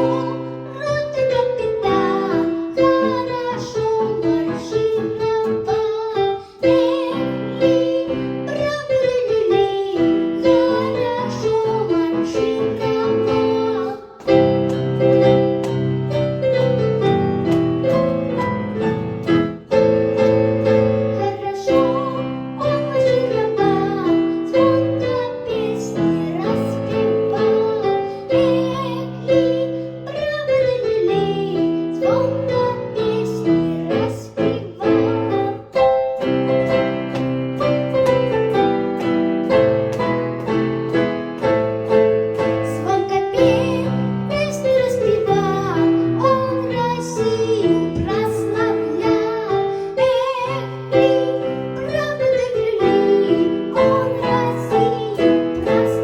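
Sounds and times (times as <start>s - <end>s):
piano accompaniment: 0.0s - 56.0s.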